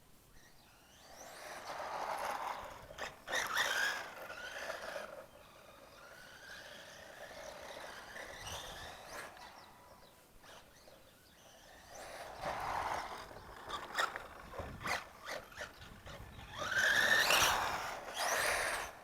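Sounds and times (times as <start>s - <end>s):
electric motor whining: 0.9s - 19.0s.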